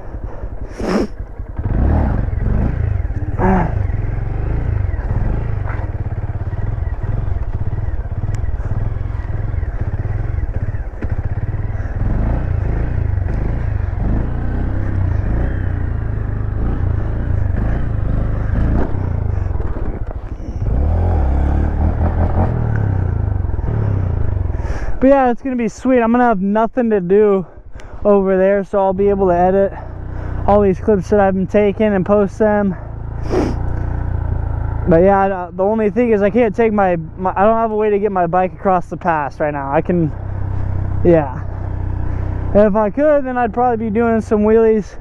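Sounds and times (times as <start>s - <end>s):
motorcycle engine revving: 0.0s - 25.0s, 29.0s - 45.0s.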